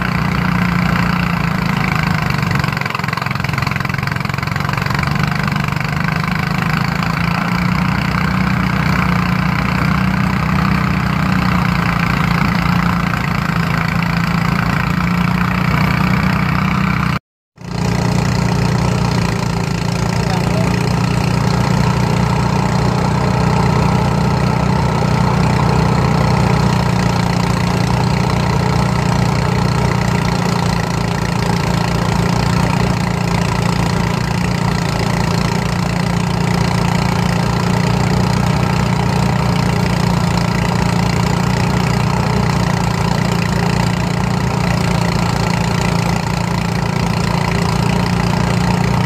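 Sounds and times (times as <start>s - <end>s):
threshing machine running: 0.0s - 49.0s.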